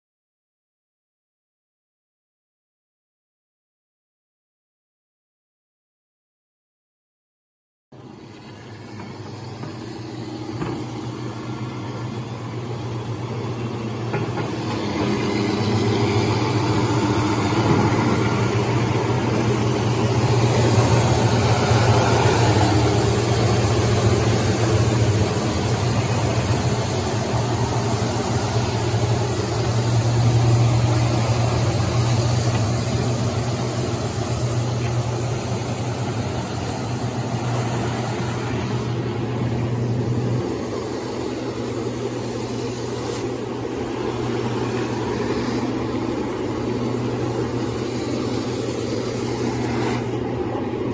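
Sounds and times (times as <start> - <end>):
wood sanding machine humming: 8.0 - 50.9.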